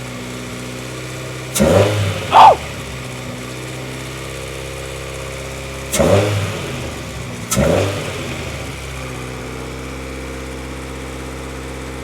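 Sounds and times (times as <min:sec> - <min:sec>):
car engine idling and revving: 0:00.0 - 0:11.9.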